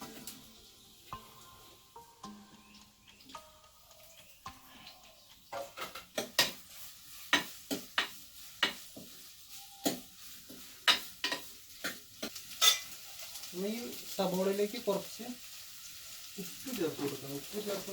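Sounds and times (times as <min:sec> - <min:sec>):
onions sizzling in oil: 0:00.0 - 0:17.9.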